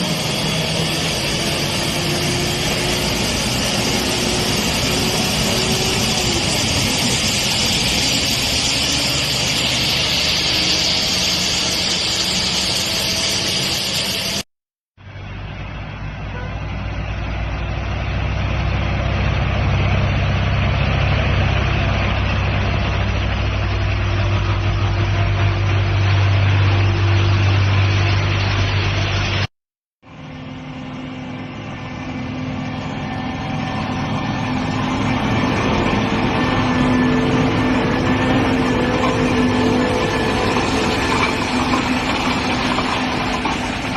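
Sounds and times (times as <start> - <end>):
heavy diesel truck engine running: 0.0 - 14.4, 15.0 - 43.9.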